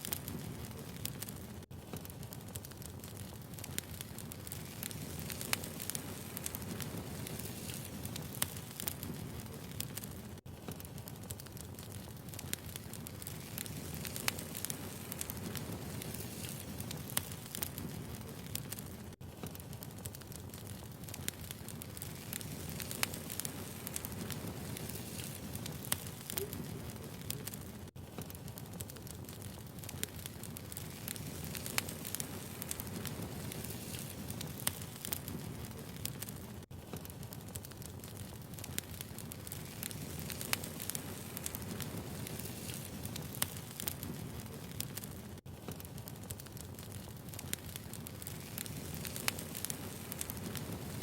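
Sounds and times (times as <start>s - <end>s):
firewood crackling: 0.0s - 51.0s
low rush of flames: 0.0s - 51.0s.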